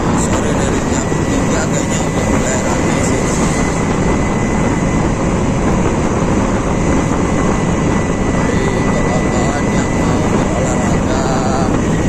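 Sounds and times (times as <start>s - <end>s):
road noise: 0.0s - 12.0s
wind buffeting microphone: 0.0s - 12.0s
wind rush: 0.0s - 12.0s.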